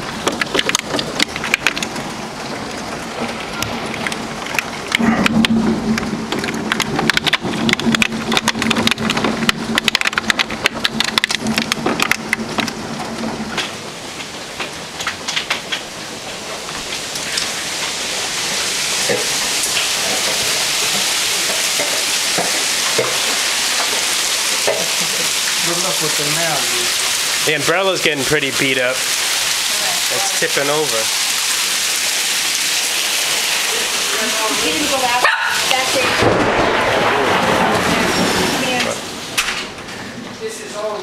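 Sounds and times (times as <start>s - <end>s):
hailstones clattering: 0.0s - 41.0s
torrential rain hissing: 0.0s - 41.0s.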